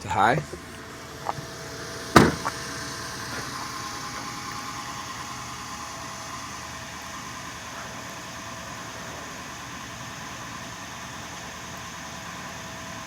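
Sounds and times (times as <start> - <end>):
engine idling: 0.0 - 13.0
suspension pump humming: 0.0 - 13.0.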